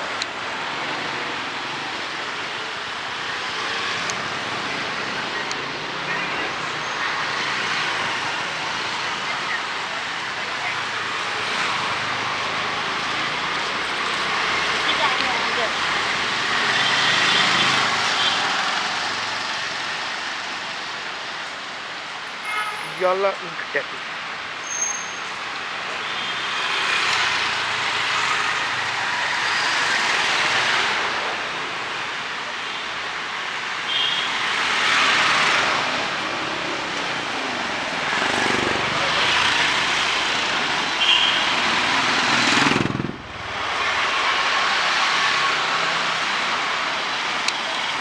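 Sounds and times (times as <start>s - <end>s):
vehicles passing on wet road: 0.0s - 48.0s.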